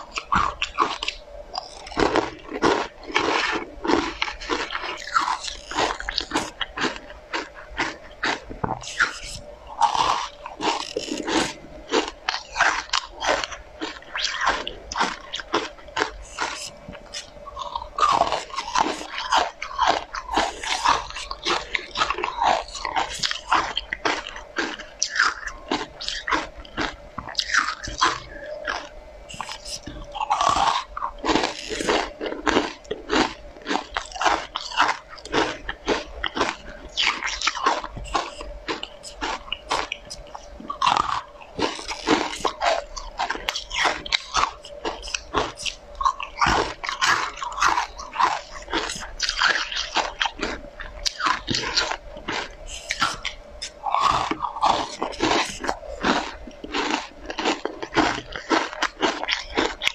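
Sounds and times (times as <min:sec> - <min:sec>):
crunchy chewing of hard sweets: 0:00.0 - 0:59.9.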